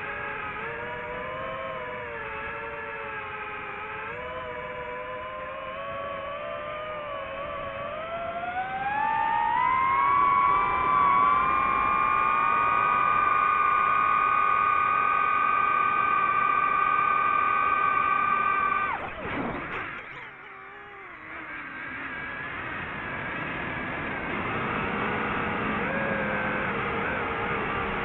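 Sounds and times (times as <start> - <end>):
drone propellers whining: 0.0 - 28.0.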